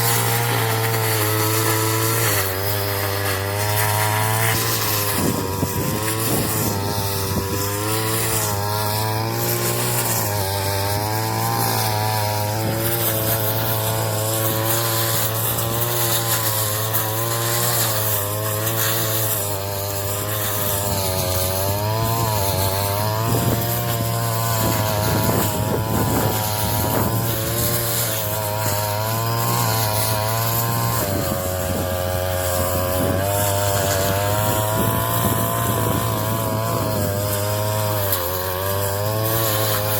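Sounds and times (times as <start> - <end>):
straw cutting machine running: 0.0 - 39.9.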